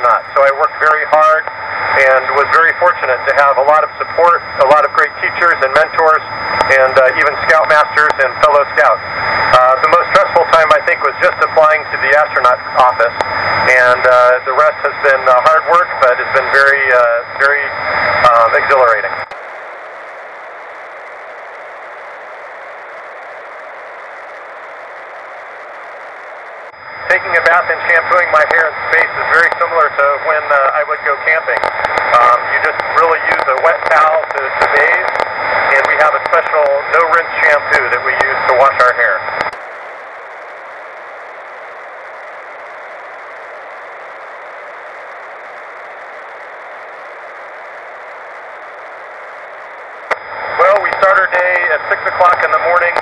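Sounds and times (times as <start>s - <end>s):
radio static hiss: 0.0s - 53.0s.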